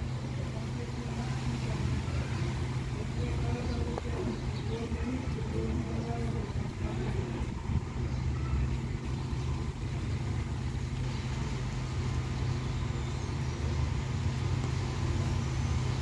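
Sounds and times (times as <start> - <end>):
steady low rumble: 0.0 - 16.0
wind rustling tree leaves: 0.0 - 16.0.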